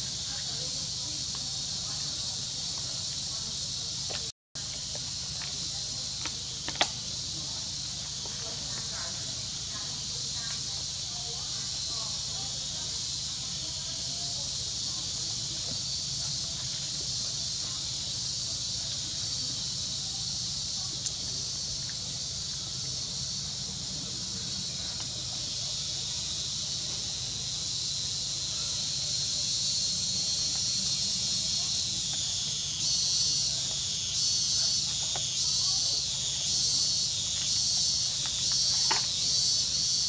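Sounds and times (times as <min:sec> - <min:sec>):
insects buzzing: 0:00.0 - 0:40.0
pulsing insect song: 0:00.0 - 0:40.0.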